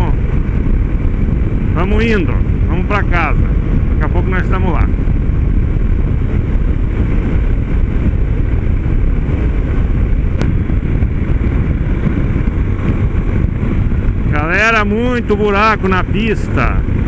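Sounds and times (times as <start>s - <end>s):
motorcycle engine drone: 0.0s - 17.0s
tyres cruising on road: 0.0s - 17.0s
wind rushing on microphone: 0.0s - 17.0s.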